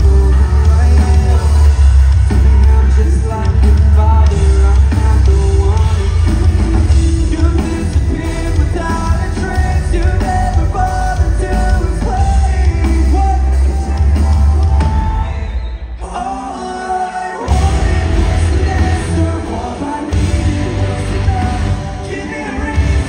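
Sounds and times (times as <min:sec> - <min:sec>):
live rock band playing: 0:00.0 - 0:23.0
singer's vocals: 0:00.0 - 0:23.0.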